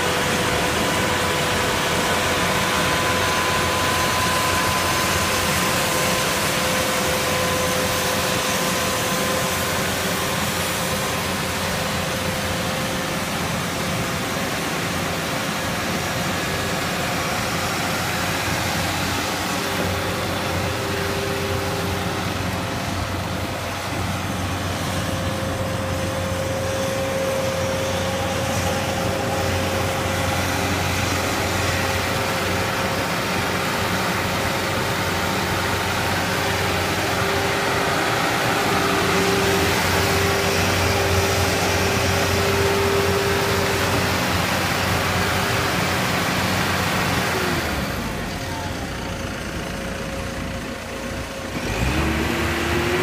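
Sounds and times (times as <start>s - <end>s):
steady whine: 0.0s - 53.0s
tractor diesel engine running: 0.0s - 53.0s.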